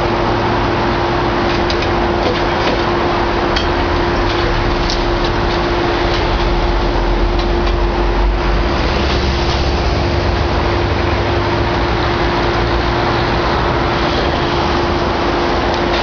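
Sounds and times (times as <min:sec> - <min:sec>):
excavator engine whining: 0:00.0 - 0:16.0.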